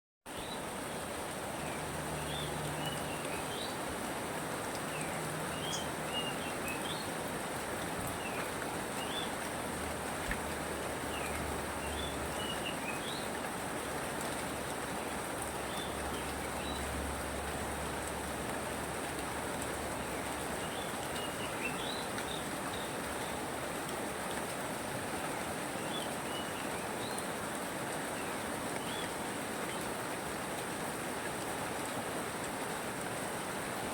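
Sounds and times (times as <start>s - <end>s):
steady rain falling: 0.3s - 33.9s.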